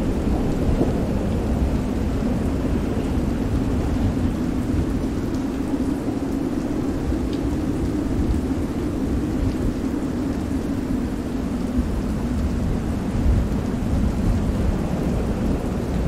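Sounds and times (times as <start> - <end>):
deep rumble of wind and sea: 0.0 - 16.0
heavy rain: 0.0 - 16.0.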